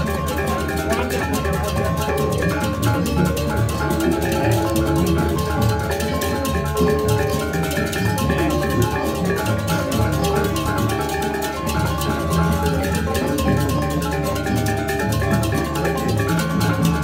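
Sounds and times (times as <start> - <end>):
drums: 0.0 - 17.0
gamelan mallet instruments ringing: 0.0 - 17.0.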